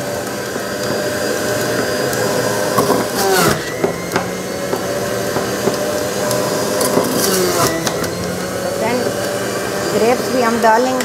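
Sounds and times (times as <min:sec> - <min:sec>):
electric juice extractor running: 0:00.0 - 0:11.0.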